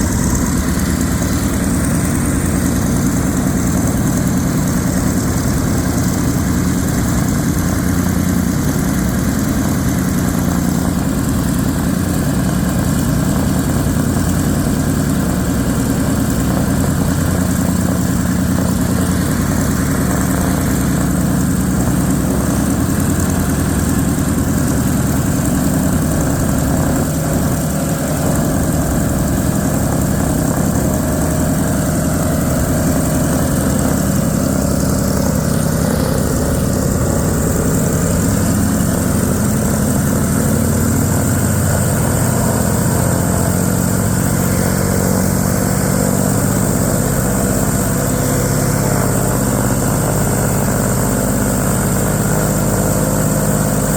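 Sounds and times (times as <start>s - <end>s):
radial aircraft engine running: 0.0s - 53.9s.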